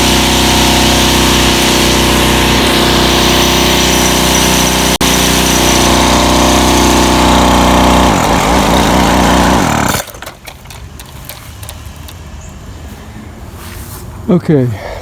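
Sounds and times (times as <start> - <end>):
string trimmer engine: 0.0 - 12.4.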